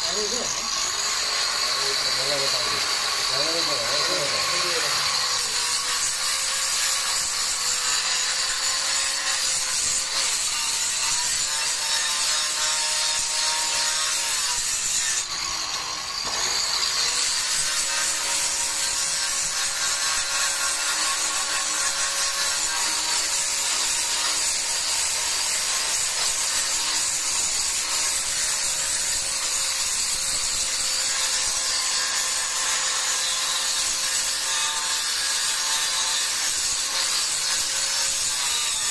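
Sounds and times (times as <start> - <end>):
electric grinder scraping stone: 0.0 - 38.9.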